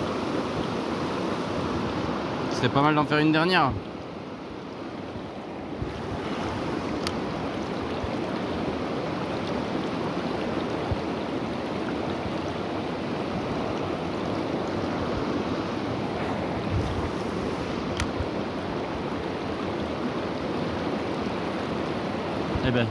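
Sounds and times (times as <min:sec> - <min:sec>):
river rushing over rocks: 0:00.0 - 0:22.9.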